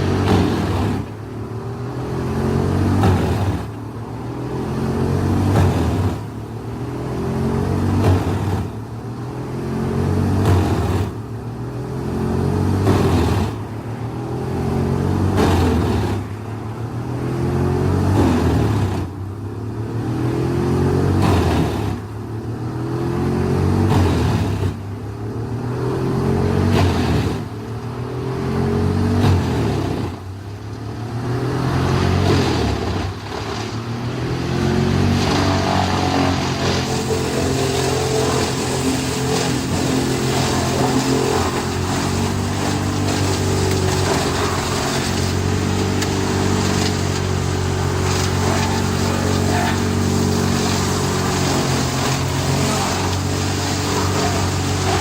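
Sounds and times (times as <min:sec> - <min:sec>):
wood chipper droning: 0:00.0 - 0:55.0.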